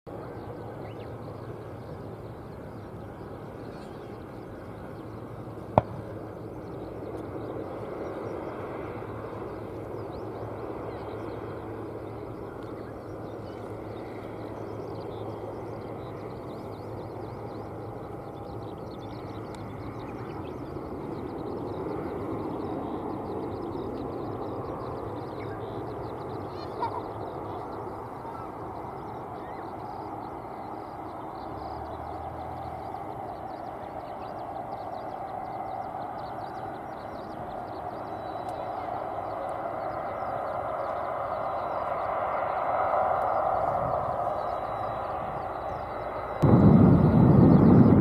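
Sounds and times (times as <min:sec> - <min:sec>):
outdoor background rumble: 0:00.1 - 0:48.0.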